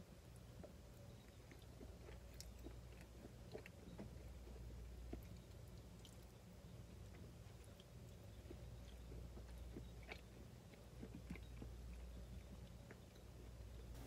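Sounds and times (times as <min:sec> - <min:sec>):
low steady hum: 0:00.0 - 0:14.0
faint chewing: 0:00.3 - 0:14.0.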